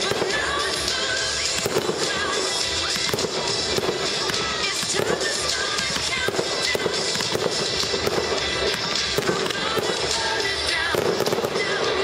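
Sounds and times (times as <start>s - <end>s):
fireworks bangs and crackling: 0.0s - 12.0s
music playing: 0.0s - 12.0s.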